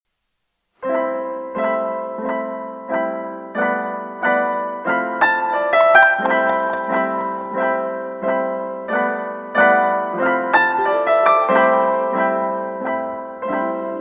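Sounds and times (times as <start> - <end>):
electric piano chords: 0.8 - 14.0.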